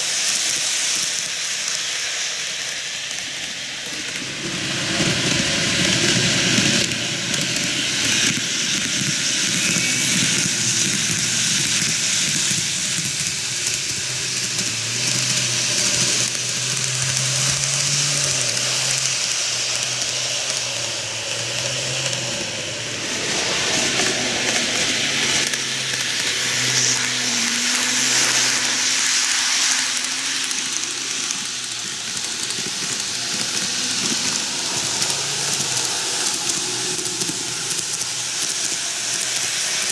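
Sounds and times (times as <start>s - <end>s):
model train wheels rattling on rails: 0.0s - 39.9s.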